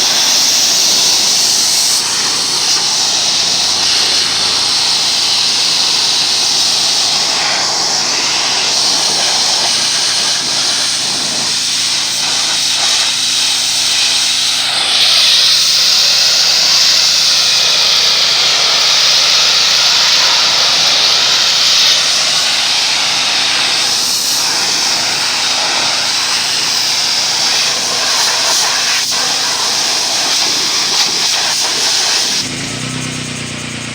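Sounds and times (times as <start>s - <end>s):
pressure washer jet hissing: 0.0s - 33.9s.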